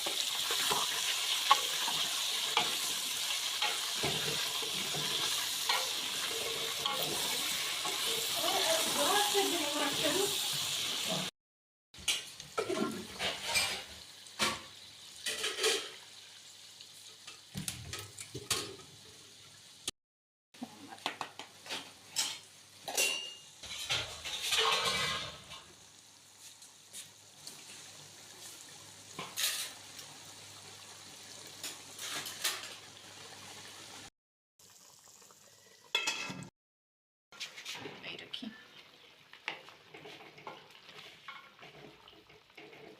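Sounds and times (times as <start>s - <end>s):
frying hiss: 0.0s - 11.3s, 12.0s - 19.9s, 20.6s - 36.5s, 37.4s - 42.9s.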